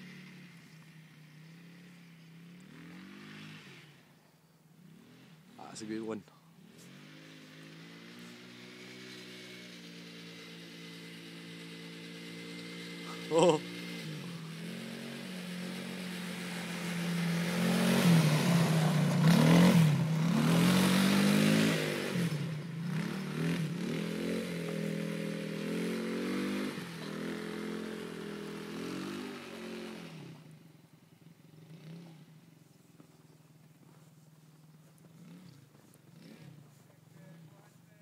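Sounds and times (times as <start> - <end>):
quad bike engine revving: 0.0 - 4.2, 4.8 - 38.0.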